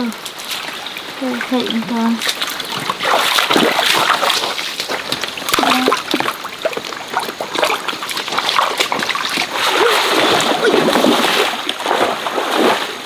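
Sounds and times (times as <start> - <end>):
stream water splashing: 0.0 - 13.0.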